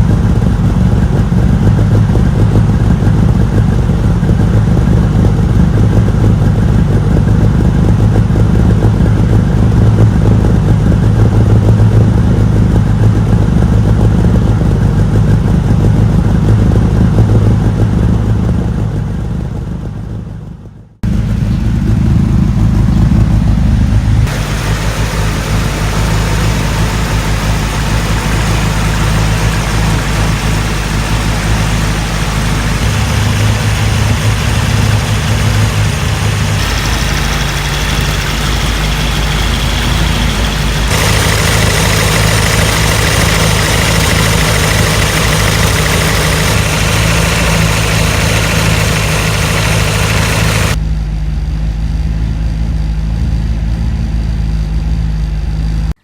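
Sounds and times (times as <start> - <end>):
car engine idling: 0.0 - 55.8.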